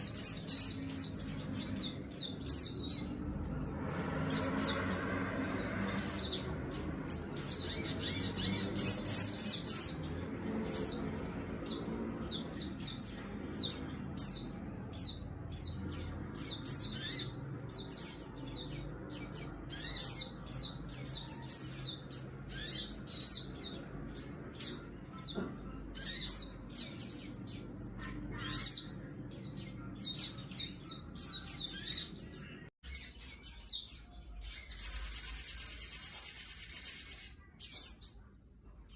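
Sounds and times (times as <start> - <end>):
sunbird chirping and trilling: 0.0 - 38.9.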